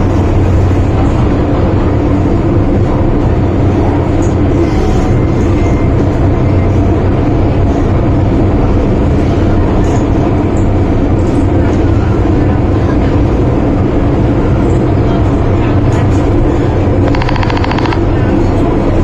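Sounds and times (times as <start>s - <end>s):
train rumbling through tunnel: 0.0s - 19.0s.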